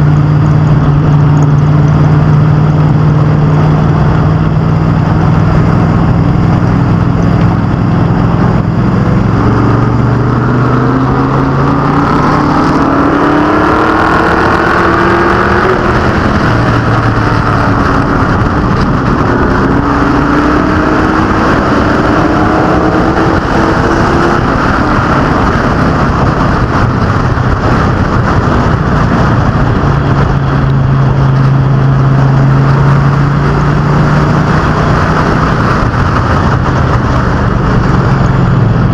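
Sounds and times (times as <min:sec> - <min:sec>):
drone of engines and tyres: 0:00.0 - 0:38.9
racing engines at full throttle: 0:00.0 - 0:38.9.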